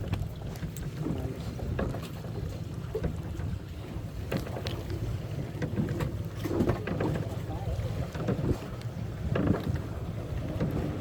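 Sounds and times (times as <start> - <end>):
fishing boat engine rumble: 0.0 - 11.0
wind buffeting microphone: 0.0 - 11.0.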